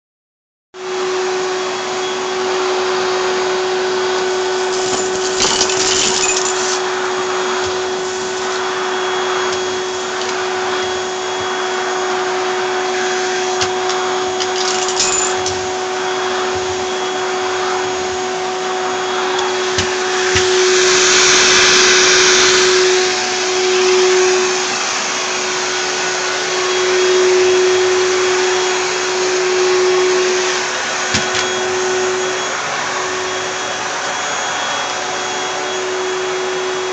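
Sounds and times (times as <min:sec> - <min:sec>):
vacuum cleaner running: 0:00.8 - 0:36.9.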